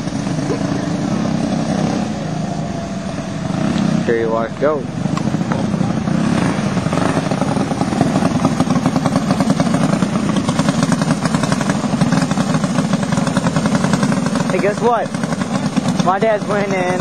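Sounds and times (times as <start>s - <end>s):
go-kart engines running: 0.0s - 17.0s.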